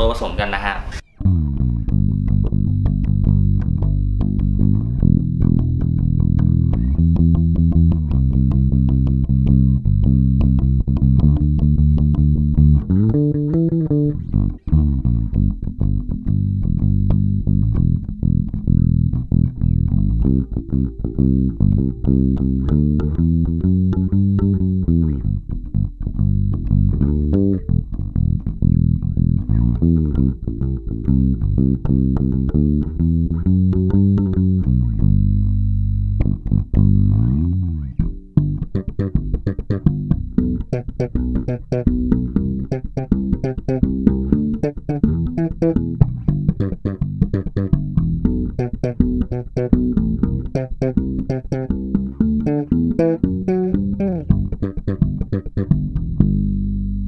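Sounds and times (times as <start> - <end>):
electric bass plucked notes: 0.0 - 57.0.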